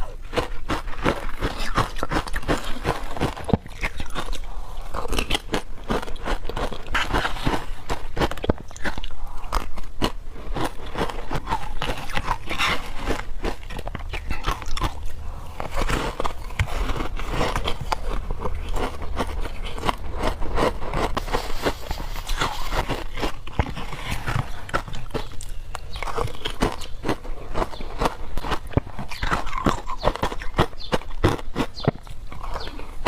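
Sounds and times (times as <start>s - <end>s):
crunching frozen ice: 0.0s - 33.0s.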